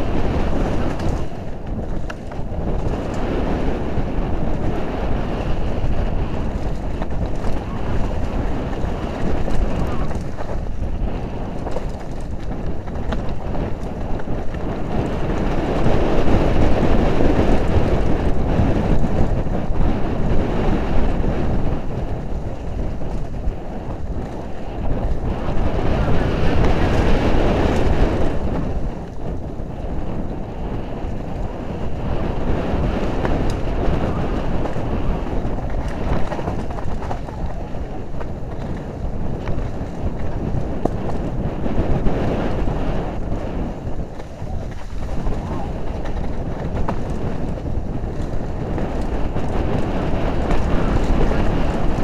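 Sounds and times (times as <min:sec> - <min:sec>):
bike rumbling and rattling on trail: 0:00.0 - 0:52.0
wind buffeting microphone: 0:00.0 - 0:52.0.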